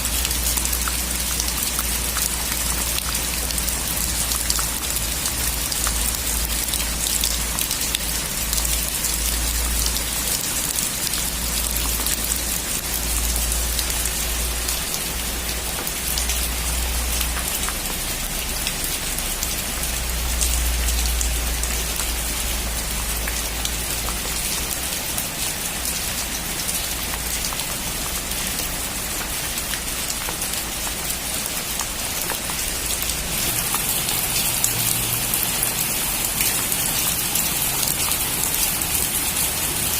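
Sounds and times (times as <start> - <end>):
heavy rain on metal roof: 0.0 - 39.9.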